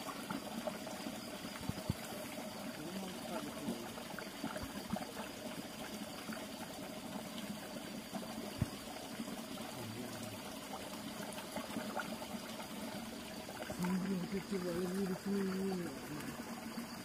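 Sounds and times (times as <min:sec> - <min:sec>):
stream water trickling: 0:00.0 - 0:17.0.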